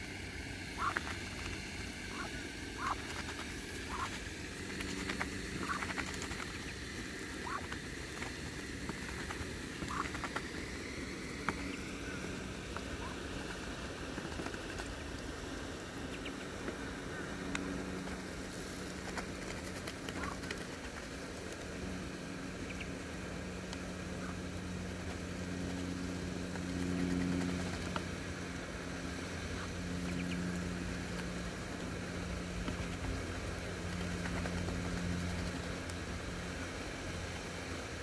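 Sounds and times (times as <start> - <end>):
low motor hum: 0.0 - 38.0
ducklings pecking grain clicks: 0.4 - 37.8.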